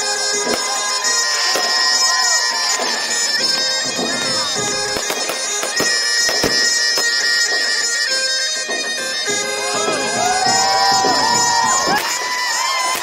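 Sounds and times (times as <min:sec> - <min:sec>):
bagpipe music: 0:00.0 - 0:13.0
fireworks banging and crackling: 0:00.0 - 0:13.0.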